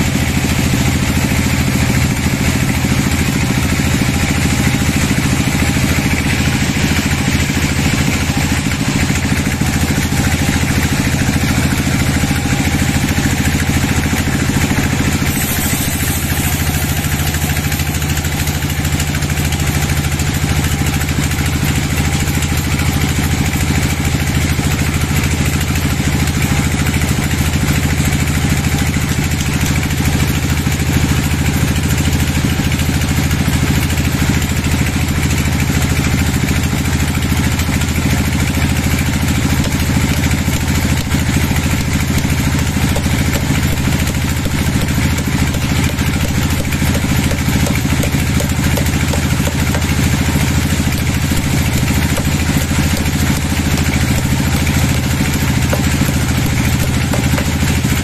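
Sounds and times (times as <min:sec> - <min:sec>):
band sawmill running: 0:00.0 - 0:58.0.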